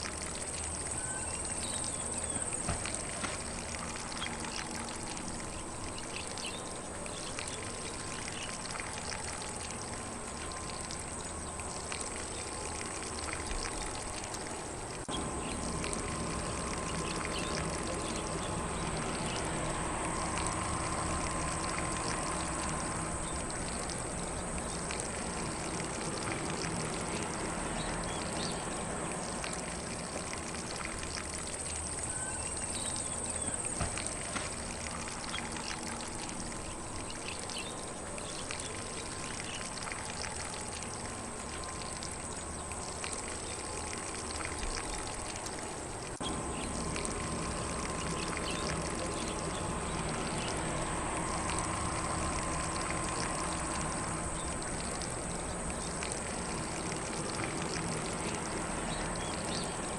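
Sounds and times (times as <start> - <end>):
sprinkler spraying water: 0.0 - 59.9.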